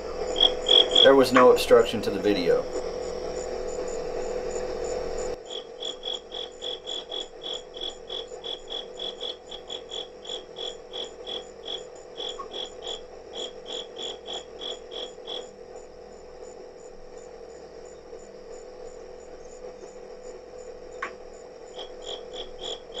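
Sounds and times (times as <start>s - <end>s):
cricket chirping: 0.0s - 23.0s
steady electrical hum: 0.0s - 23.0s.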